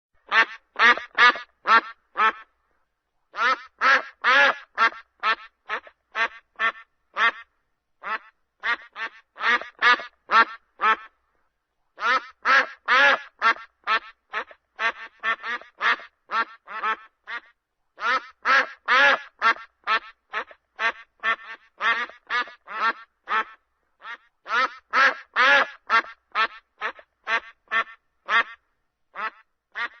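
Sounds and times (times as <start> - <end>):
ducks quacking: 0.3 - 2.5, 3.4 - 11.1, 12.0 - 28.6, 29.2 - 30.0.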